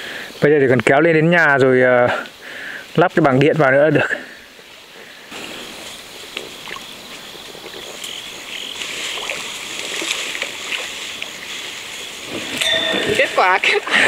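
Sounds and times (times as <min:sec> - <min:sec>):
frogs croaking: 0:00.0 - 0:14.0.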